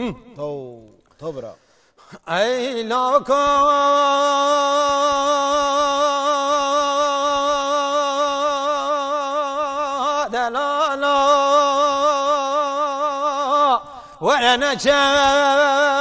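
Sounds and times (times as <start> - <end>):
man singing unaccompanied: 2.3 - 16.0.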